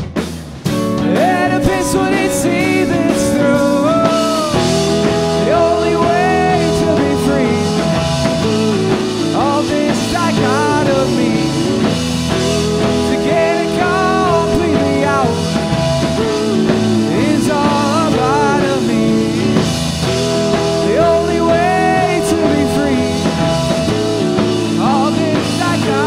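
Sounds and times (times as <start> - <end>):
rock band playing: 0.0 - 26.0
lead guitar bending notes: 0.7 - 26.0.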